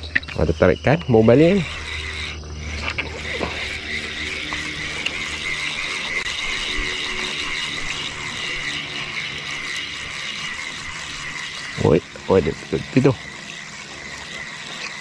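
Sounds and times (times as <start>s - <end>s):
fishing reel whirring: 0.0s - 15.0s
insects chirping: 0.0s - 15.0s.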